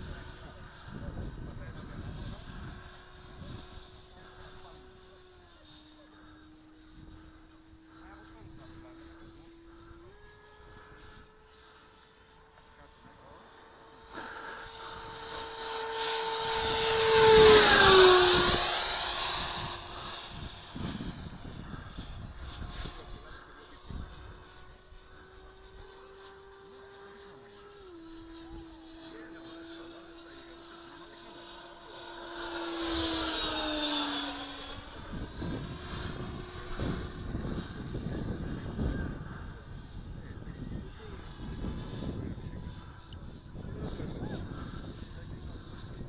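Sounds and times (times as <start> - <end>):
ducted fan jet whine passing: 0.0 - 46.0.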